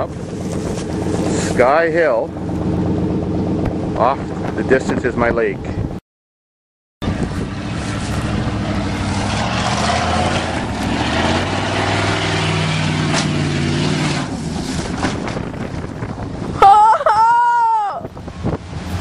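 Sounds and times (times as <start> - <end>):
truck engine pulling hard: 0.0 - 5.8, 7.0 - 16.8, 17.8 - 19.0
wind on microphone: 0.0 - 6.0, 7.0 - 19.0.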